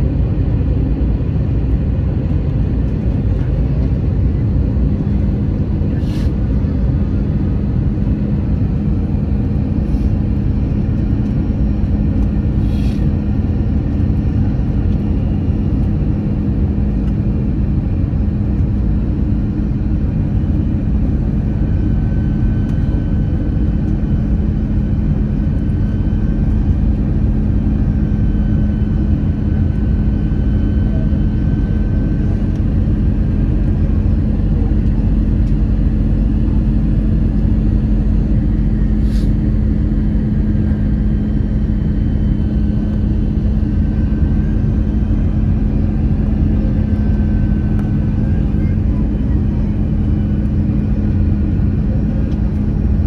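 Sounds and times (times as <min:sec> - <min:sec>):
constant low hum: 0:00.0 - 0:53.0
jet engines and airflow drone: 0:00.0 - 0:53.0.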